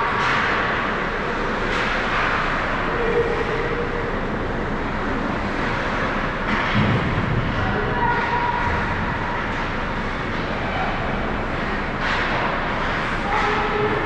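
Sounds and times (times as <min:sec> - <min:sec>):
ice rink skating and crowd noise: 0:00.0 - 0:14.0.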